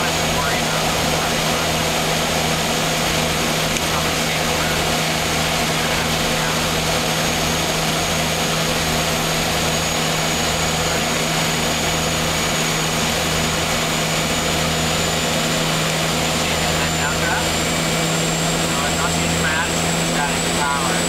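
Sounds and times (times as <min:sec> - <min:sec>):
high turbine whine: 0:00.0 - 0:21.0
propeller drone: 0:00.0 - 0:21.0.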